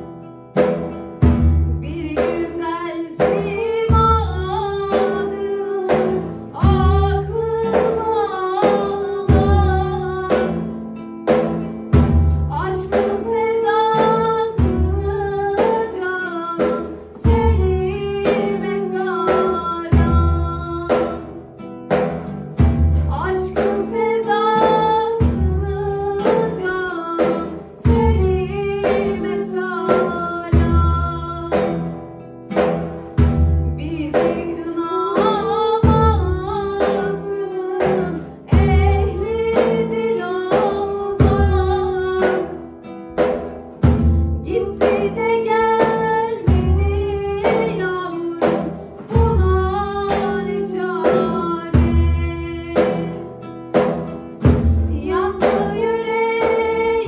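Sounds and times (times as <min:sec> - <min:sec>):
guitar: 0:00.0 - 0:57.0
woman singing folk song: 0:00.0 - 0:57.0
frame drum beating: 0:00.5 - 0:57.0.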